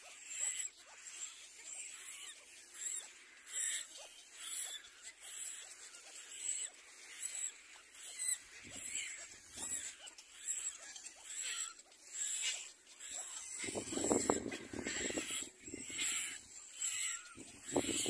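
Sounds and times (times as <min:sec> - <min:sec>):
chicks giving wheezy begging calls: 0:00.0 - 0:18.0.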